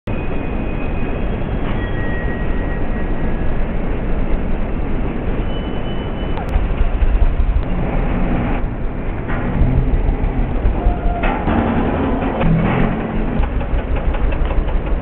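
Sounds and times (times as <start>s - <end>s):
city traffic noise: 0.1s - 15.0s.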